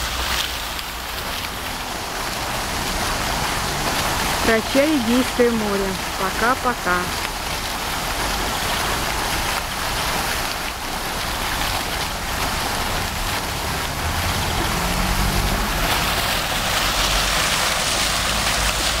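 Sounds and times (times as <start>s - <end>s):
fountain water splashing: 0.0s - 19.0s.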